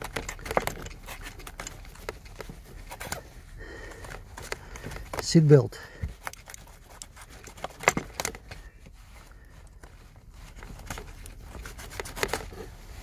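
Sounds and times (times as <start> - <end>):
seat belt webbing being cut: 0.0 - 5.5, 6.1 - 13.0.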